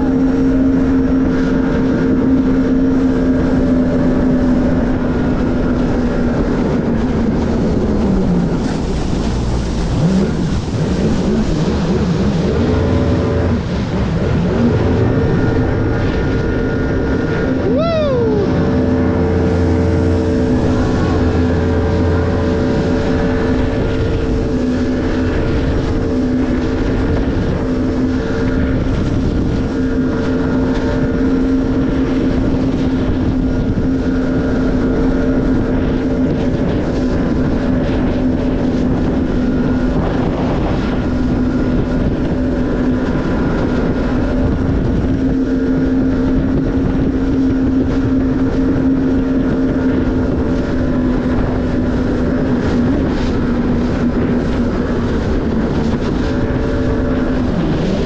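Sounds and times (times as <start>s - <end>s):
jet ski engine running: 0.0s - 58.0s
wind and water rushing: 0.0s - 58.0s.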